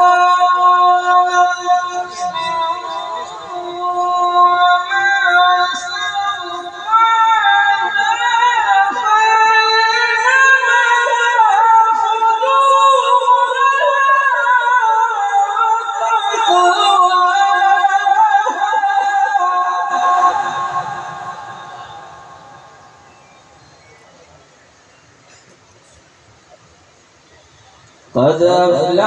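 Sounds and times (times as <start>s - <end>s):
man reciting melodically: 0.0s - 22.6s, 28.1s - 29.0s.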